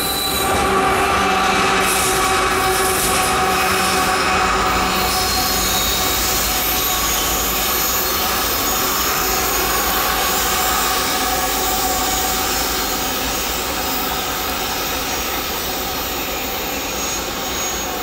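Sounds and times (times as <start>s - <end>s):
locomotive engine noise: 0.0s - 18.0s
low rumble of train: 0.0s - 18.0s.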